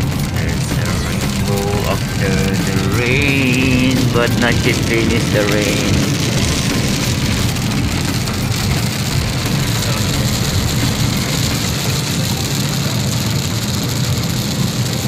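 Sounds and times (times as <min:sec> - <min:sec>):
engine and tyre hum: 0:00.0 - 0:15.0
rain on car: 0:00.0 - 0:15.0.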